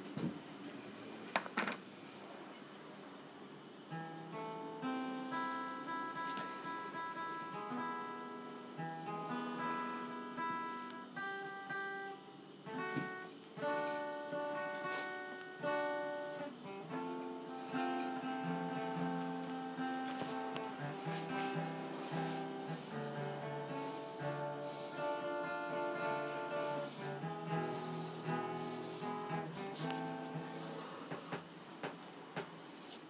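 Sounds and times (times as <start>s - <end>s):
acoustic guitar melody: 3.9s - 32.0s.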